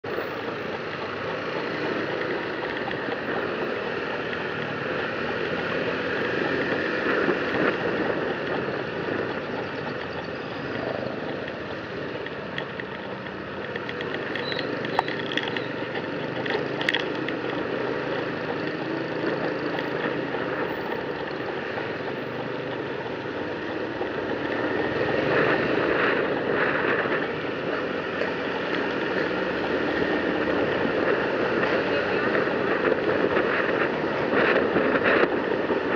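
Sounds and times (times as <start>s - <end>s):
road and traffic noise: 0.0s - 35.9s
scooter engine running: 0.0s - 35.9s.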